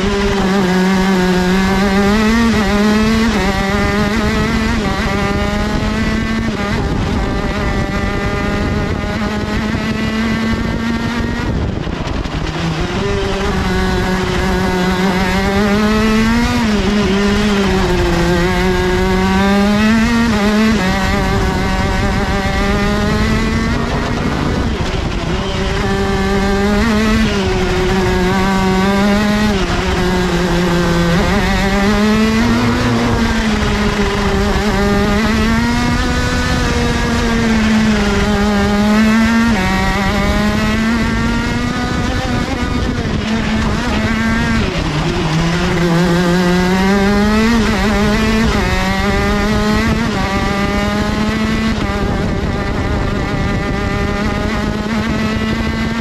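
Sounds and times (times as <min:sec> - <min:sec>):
two-stroke kart engine revving: 0:00.0 - 0:56.0.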